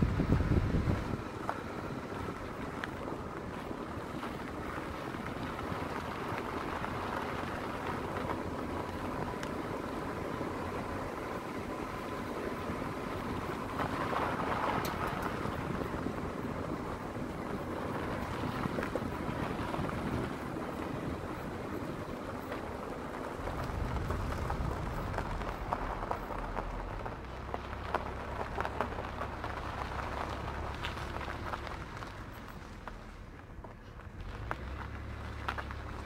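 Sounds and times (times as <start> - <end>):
wind rumbling on microphone: 0.0 - 36.0.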